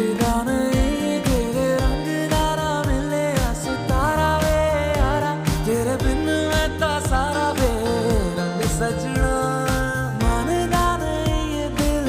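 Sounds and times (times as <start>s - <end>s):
song with sung melody and beat: 0.0s - 12.0s.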